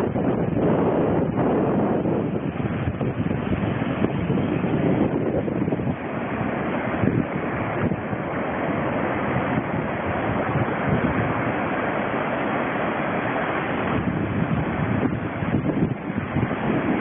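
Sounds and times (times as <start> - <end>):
wind blowing on microphone: 0.0 - 17.0.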